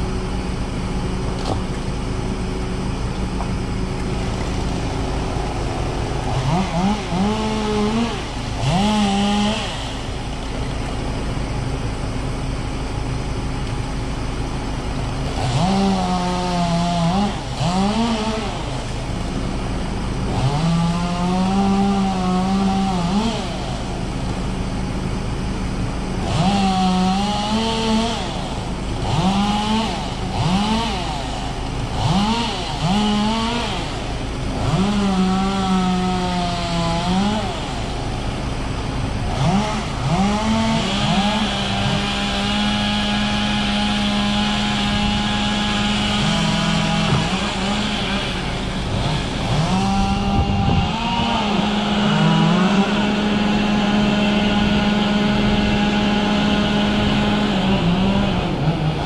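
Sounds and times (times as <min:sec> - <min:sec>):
small engine revving: 0:00.0 - 0:59.0.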